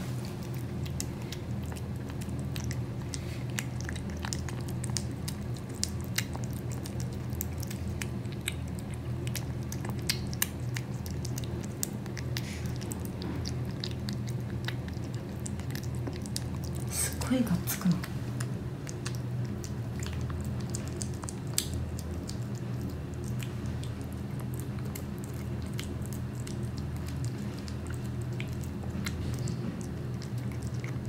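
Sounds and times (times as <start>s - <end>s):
kitten chewing wet food: 0.0s - 31.0s
steady low hum: 0.0s - 31.0s.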